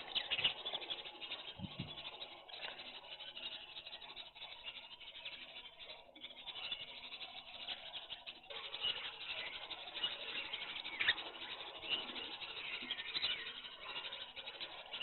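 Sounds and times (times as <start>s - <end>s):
birds chirping: 0.0s - 15.0s
birds pecking grain: 0.0s - 15.0s.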